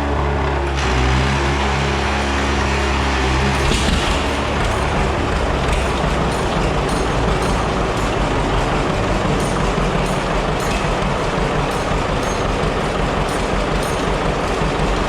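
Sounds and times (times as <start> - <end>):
tractor engine rumbling with clatter: 0.0 - 15.0.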